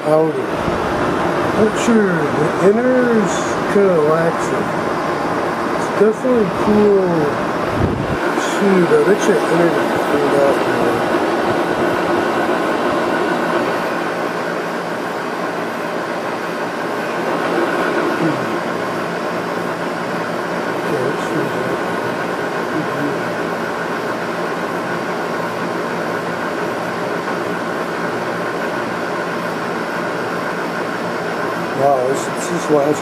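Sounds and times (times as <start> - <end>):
window air conditioner running: 0.0 - 33.0.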